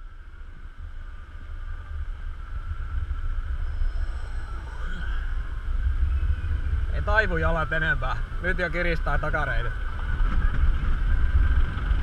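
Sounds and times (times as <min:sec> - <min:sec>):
high whine: 0:00.0 - 0:12.0
roller coaster rumble: 0:00.0 - 0:12.0.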